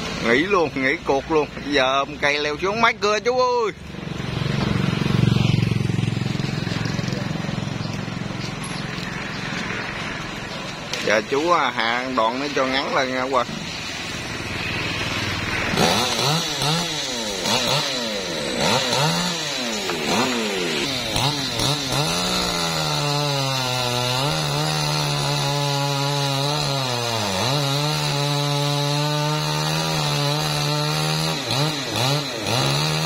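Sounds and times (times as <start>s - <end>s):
chainsaw revving and cutting wood: 0.0s - 33.0s.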